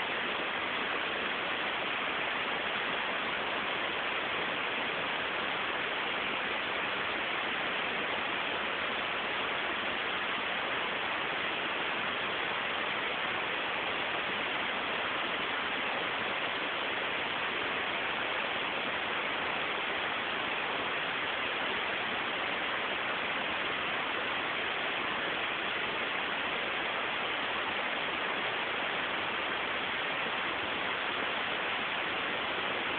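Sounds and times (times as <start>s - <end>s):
static hiss: 0.0s - 32.9s.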